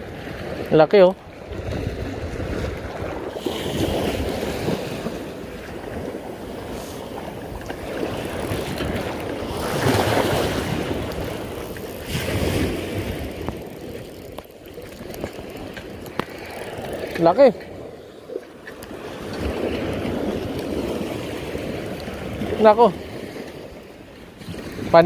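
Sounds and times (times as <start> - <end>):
water splashing and sloshing: 0.0 - 25.0
wind rumbling on microphone: 0.0 - 25.0.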